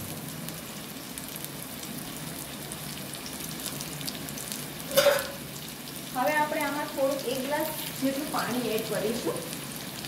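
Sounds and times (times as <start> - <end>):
onions frying in oil: 0.0 - 10.0.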